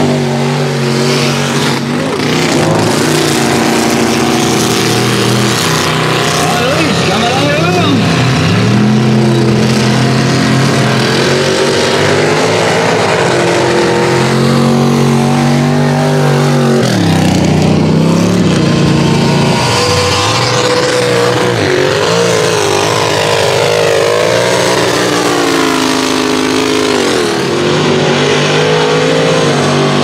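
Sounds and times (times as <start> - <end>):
truck engine at high revs: 0.0 - 30.0.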